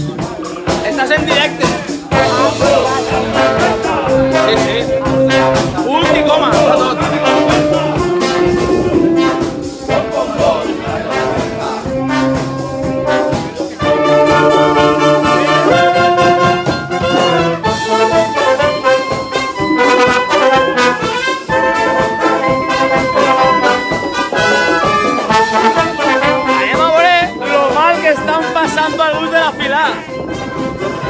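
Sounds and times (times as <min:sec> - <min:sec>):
drum kit: 0:00.0 - 0:31.0
trombones and brass: 0:00.0 - 0:31.0
clarinet: 0:01.9 - 0:31.0.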